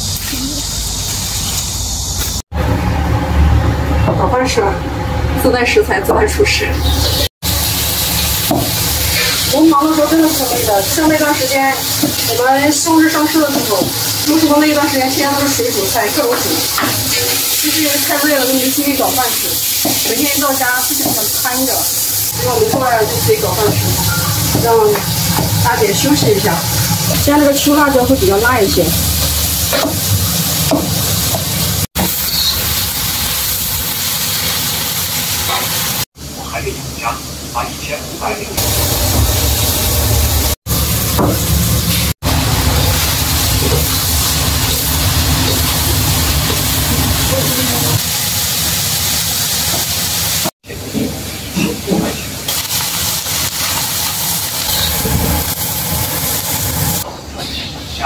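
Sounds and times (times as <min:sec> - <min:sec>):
stir-frying sizzle in a wok: 0:07.1 - 0:36.6, 0:38.6 - 0:57.1.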